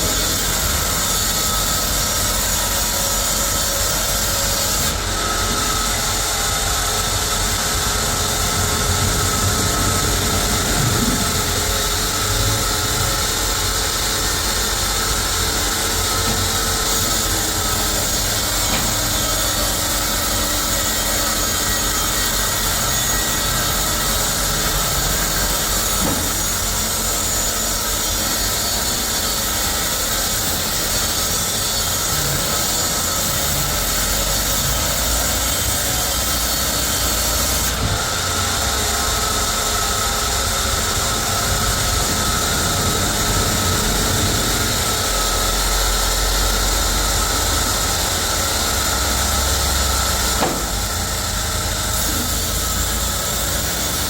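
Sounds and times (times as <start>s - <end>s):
saw cutting through wood: 0.0s - 54.0s
sawmill machinery running: 0.0s - 54.0s.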